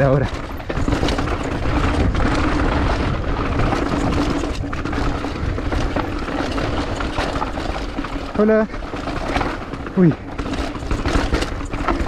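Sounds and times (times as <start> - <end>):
bike tyres rolling over dirt: 0.0 - 12.0.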